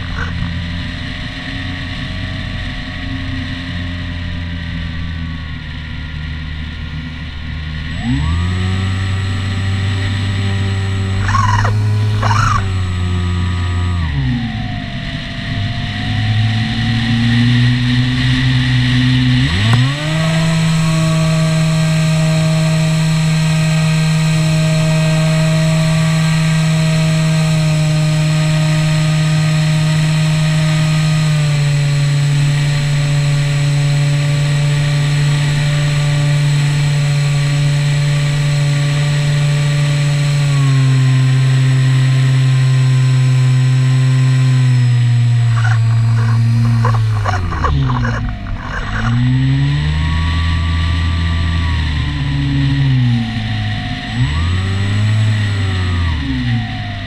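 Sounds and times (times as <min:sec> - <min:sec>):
model plane motor droning: 0:00.0 - 0:57.0.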